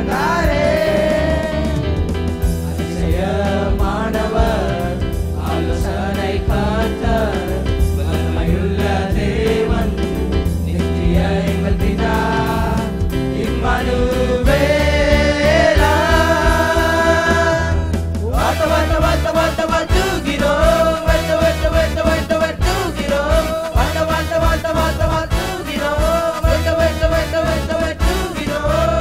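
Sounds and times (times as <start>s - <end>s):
amplified instrumental backing: 0.0s - 29.0s
male choir singing in harmony: 0.0s - 29.0s.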